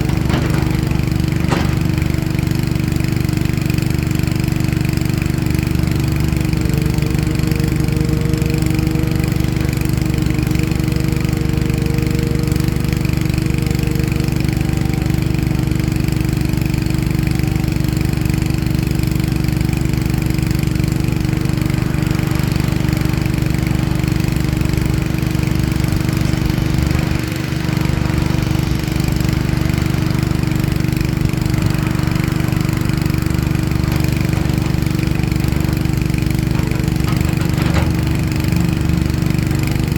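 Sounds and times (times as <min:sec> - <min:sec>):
large diesel engine droning: 0:00.0 - 0:39.9.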